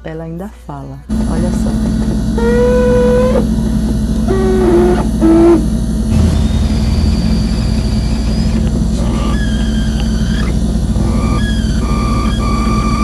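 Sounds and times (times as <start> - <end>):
refrigerator humming: 1.1 - 13.0
thin high whine: 1.1 - 13.0
refrigerator squealing tones: 2.2 - 13.0.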